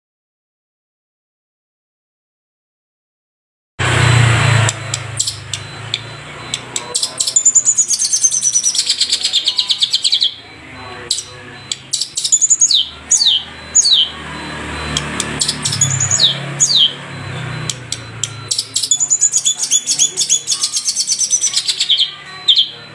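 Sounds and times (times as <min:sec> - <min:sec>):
bird singing: 0:04.4 - 0:22.9.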